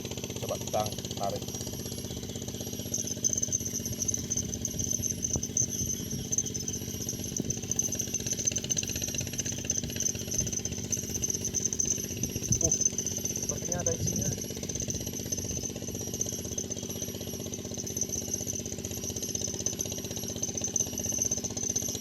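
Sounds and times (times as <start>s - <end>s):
fishing reel cranking: 0.0s - 22.0s.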